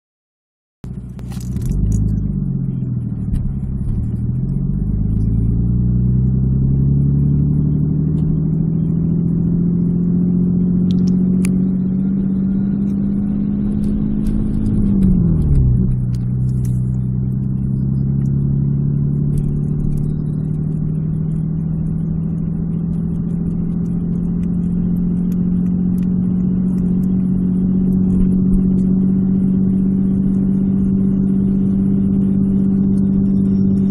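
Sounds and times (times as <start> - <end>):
car engine accelerating: 0.8 - 33.9.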